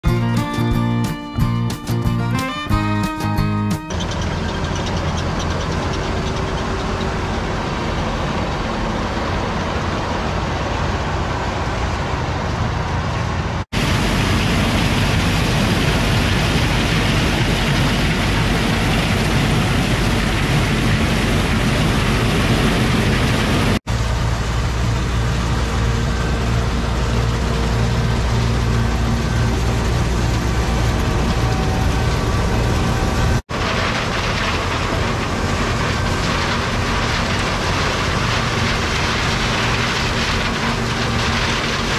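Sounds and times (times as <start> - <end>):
combine harvesters running: 0.0 - 41.9.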